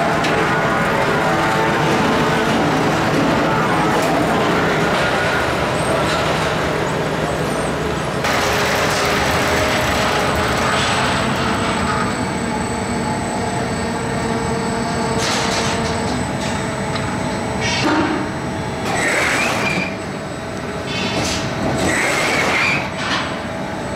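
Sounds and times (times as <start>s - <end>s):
machine hum: 0.0s - 23.9s.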